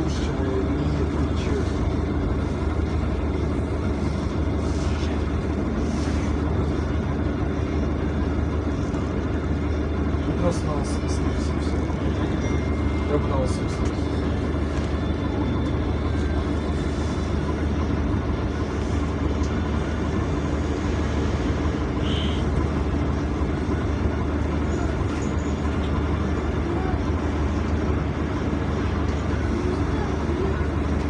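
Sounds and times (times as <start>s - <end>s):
bus engine drone: 0.0s - 31.0s
road and cabin noise: 0.0s - 31.0s.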